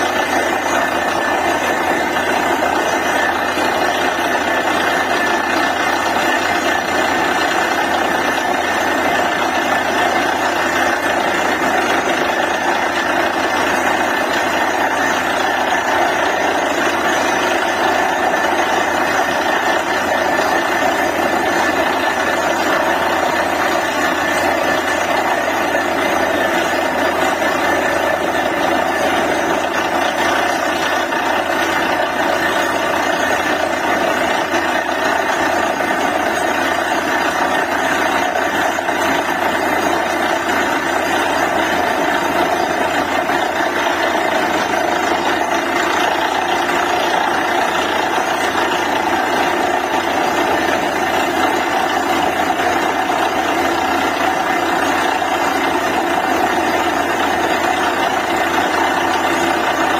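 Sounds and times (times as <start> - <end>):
drilling rig engine running: 0.0 - 59.9.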